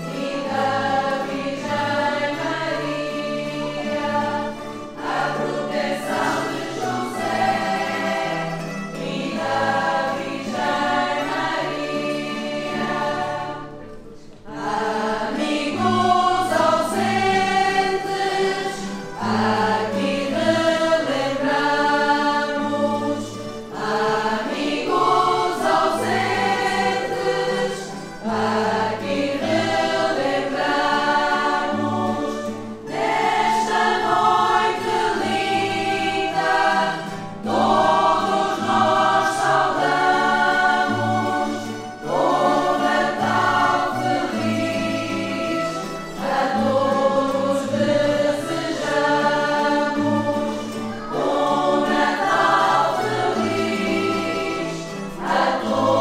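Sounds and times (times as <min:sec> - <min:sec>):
choir of women singing: 0:00.0 - 0:56.0.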